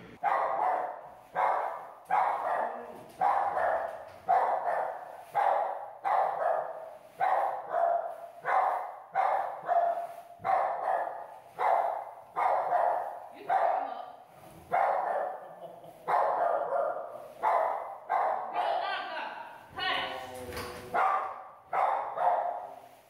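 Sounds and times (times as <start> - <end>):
dog barking in kennel room: 0.2 - 18.8, 20.9 - 23.0.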